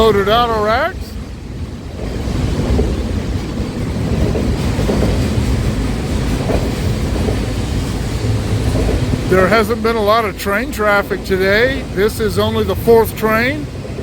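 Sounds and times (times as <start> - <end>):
freight train rolling past: 0.0 - 14.0
steel wheels on rail: 0.0 - 14.0.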